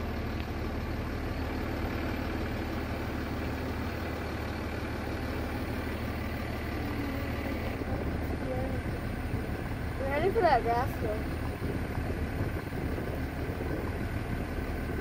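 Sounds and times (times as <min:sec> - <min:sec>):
car engine running at low speed: 0:00.0 - 0:15.0.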